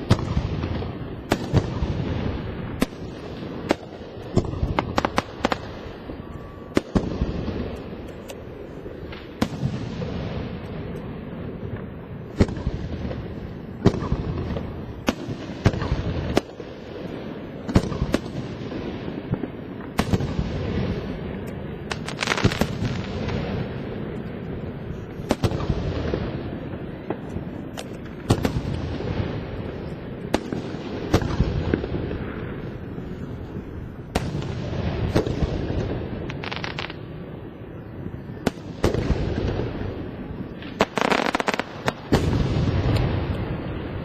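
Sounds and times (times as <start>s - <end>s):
fireworks bursting with bangs: 0.0s - 44.0s
fireworks crackling: 0.0s - 44.0s.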